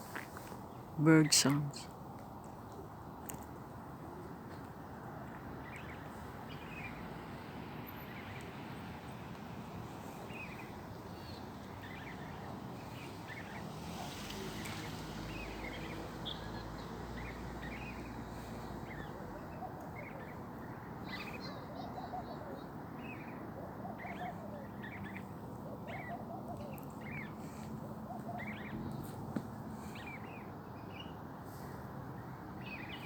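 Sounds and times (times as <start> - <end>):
small birds chirping: 2.6 - 33.0.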